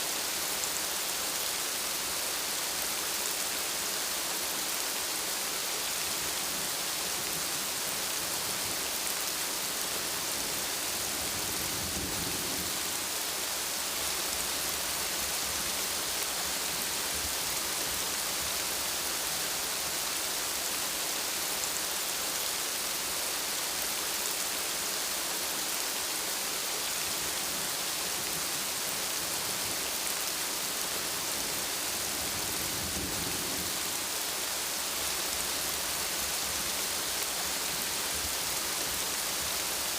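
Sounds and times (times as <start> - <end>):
steady rainfall hissing: 0.0 - 39.9.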